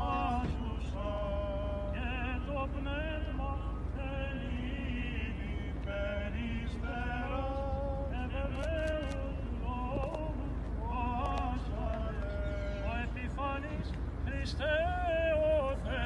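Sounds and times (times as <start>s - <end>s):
men chanting a hymn: 0.0s - 16.0s.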